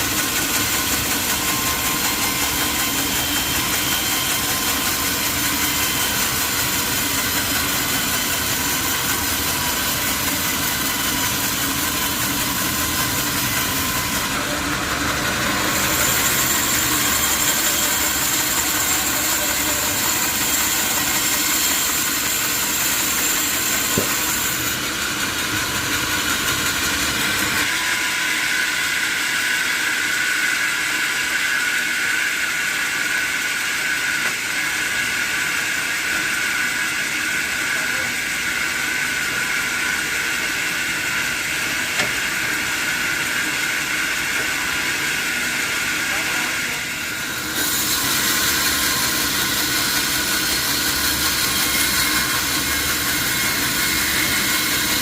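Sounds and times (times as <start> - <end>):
sawmill machinery rumble: 0.0 - 55.0.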